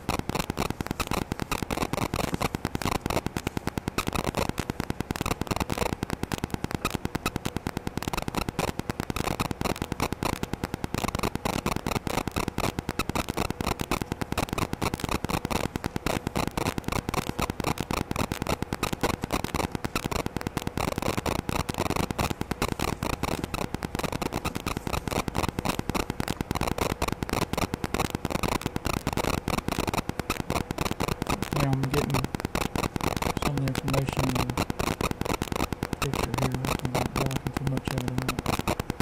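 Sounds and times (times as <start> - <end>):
electrical interference buzz: 0.0 - 39.0.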